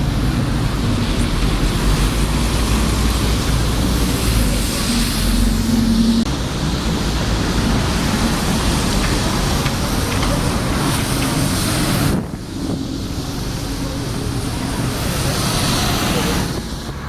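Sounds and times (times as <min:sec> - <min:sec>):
passing vehicles: 0:00.0 - 0:17.0
wind buffeting microphone: 0:00.0 - 0:17.0.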